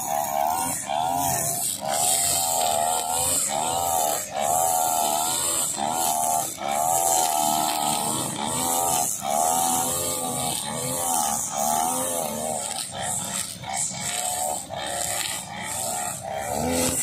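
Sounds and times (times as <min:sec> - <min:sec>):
nylon line cutting grass: 0:00.0 - 0:17.0
string trimmer engines: 0:00.0 - 0:17.0.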